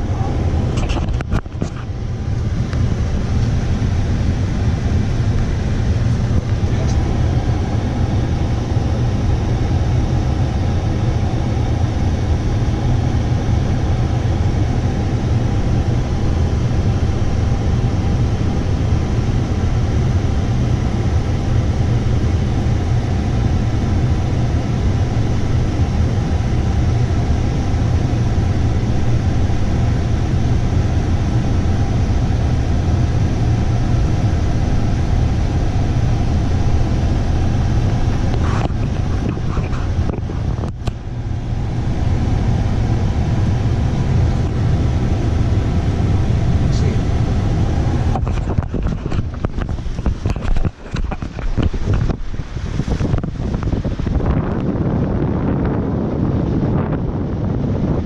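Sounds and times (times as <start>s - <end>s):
constant rushing noise: 0.0s - 58.0s
vehicle engine running: 0.0s - 58.0s.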